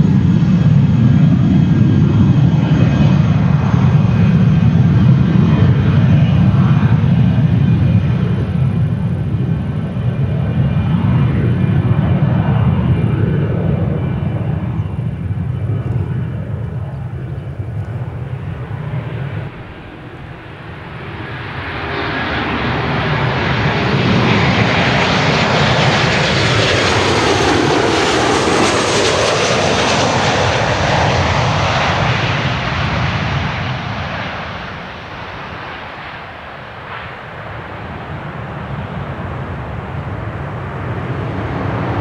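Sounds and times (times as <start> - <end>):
airliner jet engines passing overhead: 0.0 - 42.0
jet engines rumbling: 0.0 - 42.0.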